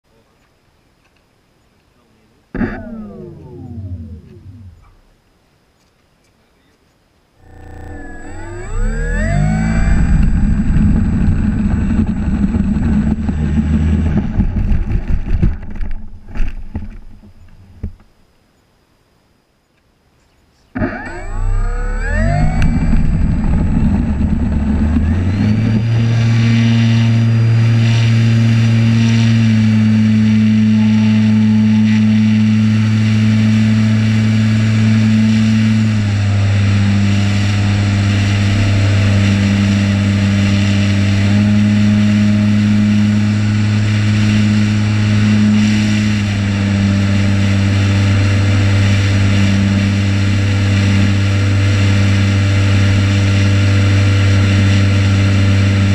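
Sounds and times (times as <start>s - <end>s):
electric motor and propeller drone: 2.6s - 5.1s, 7.4s - 17.0s, 20.8s - 55.9s.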